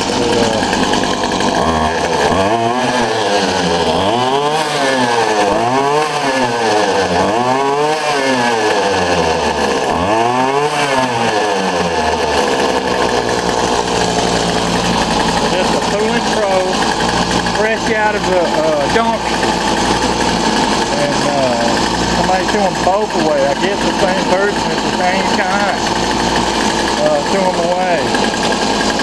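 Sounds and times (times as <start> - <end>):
string trimmer engine revving: 0.0 - 29.0.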